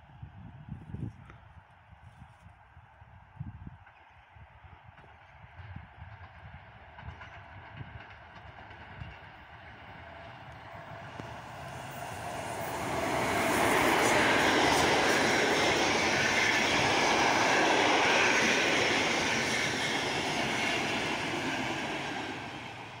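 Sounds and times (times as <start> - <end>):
train wheels rumbling on rail: 3.4 - 23.0.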